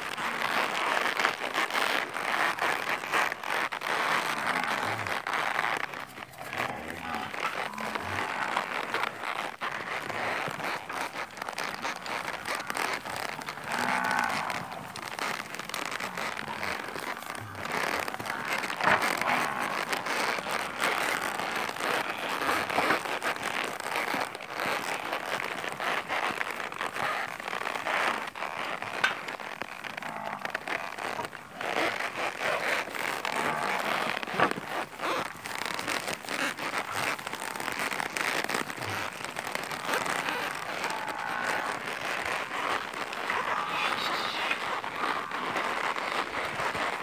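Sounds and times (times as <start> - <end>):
hooves clattering on dirt: 0.0 - 47.0.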